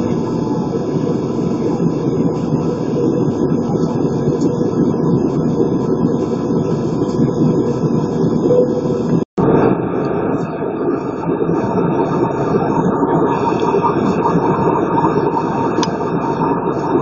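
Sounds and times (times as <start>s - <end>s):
airplane cabin engine drone: 0.0s - 17.0s.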